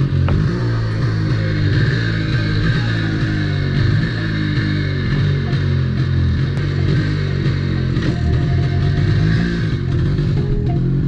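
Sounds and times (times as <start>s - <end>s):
rock music with guitar and bass: 0.0s - 11.0s.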